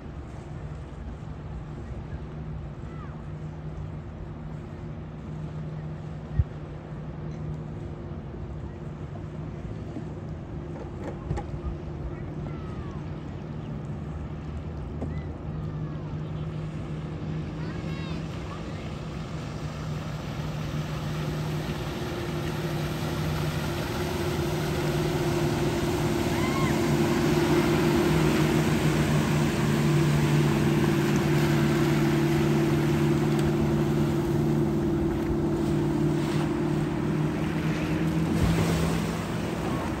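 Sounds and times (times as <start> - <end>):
motorboat engine humming: 0.0 - 40.0
rushing water: 0.0 - 40.0
wind: 0.0 - 40.0.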